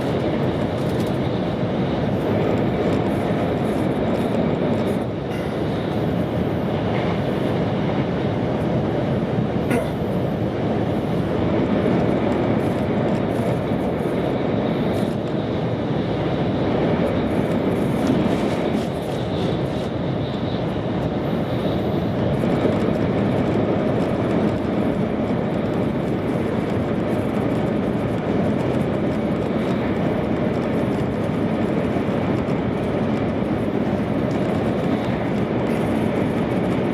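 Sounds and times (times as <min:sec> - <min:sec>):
train running rumble: 0:00.0 - 0:36.9.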